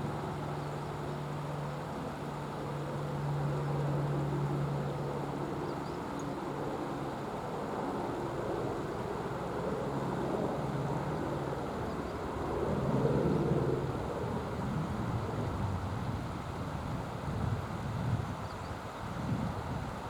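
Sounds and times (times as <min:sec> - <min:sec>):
helicopter engine and rotor drone: 0:00.0 - 0:19.7.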